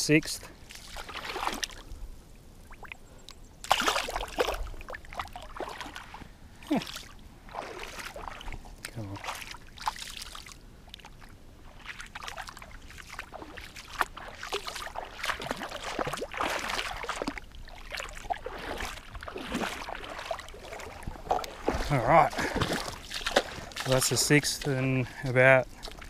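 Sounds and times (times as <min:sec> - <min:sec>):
feet sloshing through water: 0:00.5 - 0:26.0.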